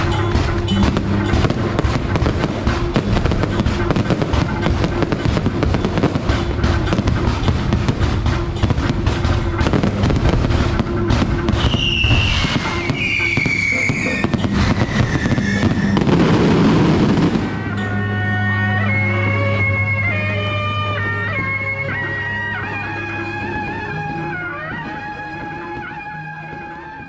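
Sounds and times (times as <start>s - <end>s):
fireworks crackling: 0.0s - 18.0s, 19.2s - 27.0s
whistling fireworks: 0.0s - 18.3s, 19.0s - 27.0s
music: 0.0s - 27.0s
reedy wind instrument: 0.0s - 27.0s.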